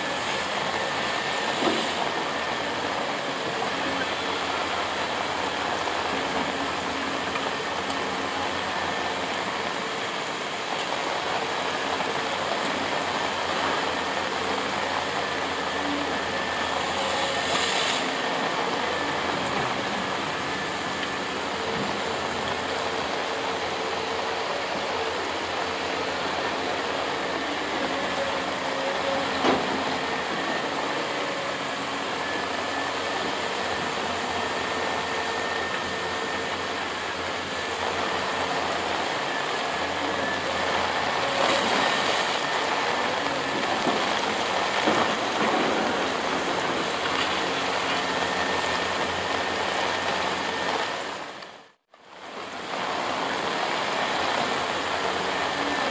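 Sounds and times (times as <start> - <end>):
road traffic engines: 0.0 - 55.9.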